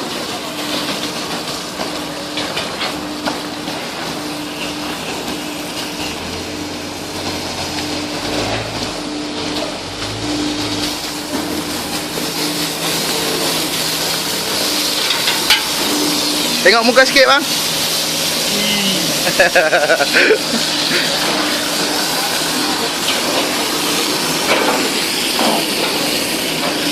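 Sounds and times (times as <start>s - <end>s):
heavy construction machinery running: 0.0s - 26.9s.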